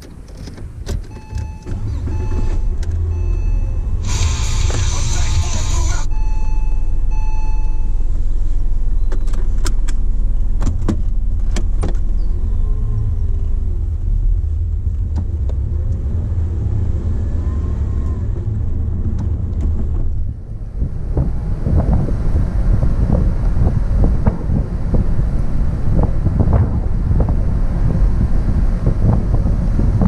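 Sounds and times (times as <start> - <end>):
car engine running: 0.6 - 16.3, 18.3 - 30.0.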